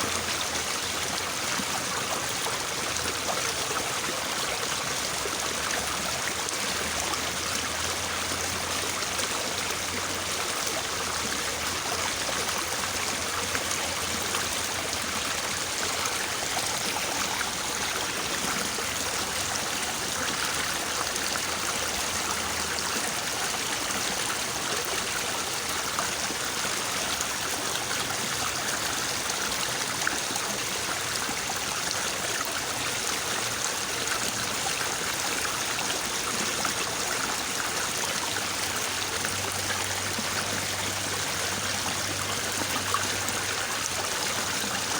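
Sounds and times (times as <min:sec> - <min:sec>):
river water babbling: 0:00.0 - 0:44.9.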